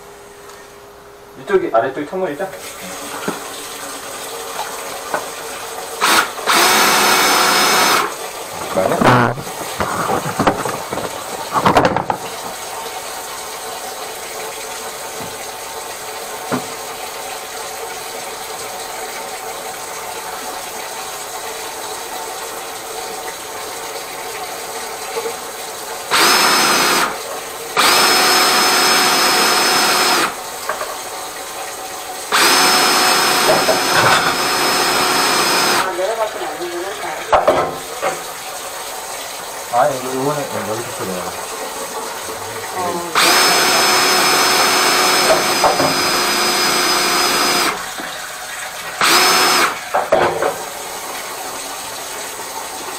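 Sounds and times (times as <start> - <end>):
drain jetter motor whine: 2.2 - 37.3, 37.9 - 52.9.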